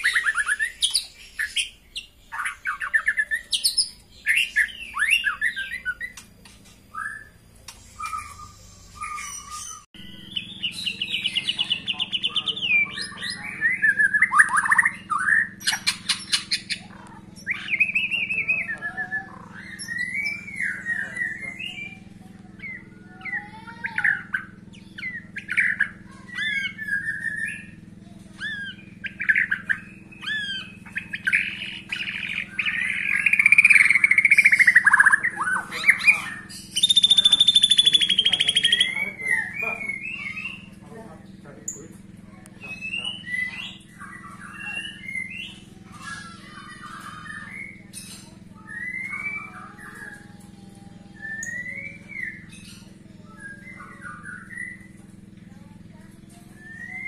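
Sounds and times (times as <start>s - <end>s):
bird singing varied phrases: 0.0s - 57.0s
steady low hum: 0.0s - 57.0s.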